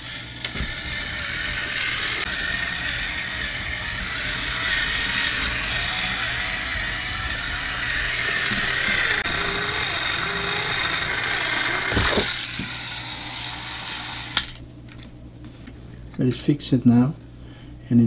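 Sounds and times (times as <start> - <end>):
toy motor and gears whirring: 0.0 - 14.6.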